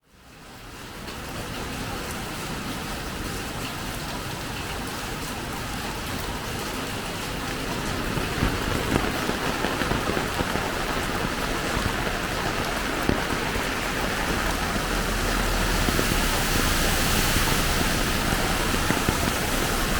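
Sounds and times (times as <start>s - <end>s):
heavy rain falling: 0.0s - 19.9s
sharp raindrop hits: 3.4s - 19.9s.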